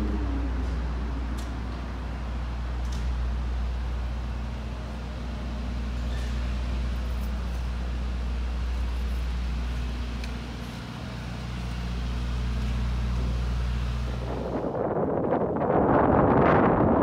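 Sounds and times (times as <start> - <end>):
city noise: 0.0 - 17.0
low mechanical hum: 0.0 - 17.0.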